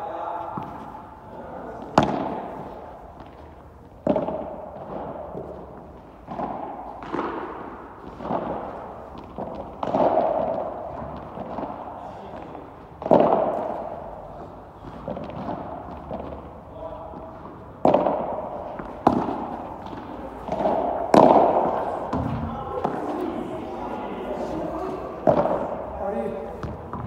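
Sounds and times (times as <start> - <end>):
racket hitting ball with echo: 0.4 - 27.0.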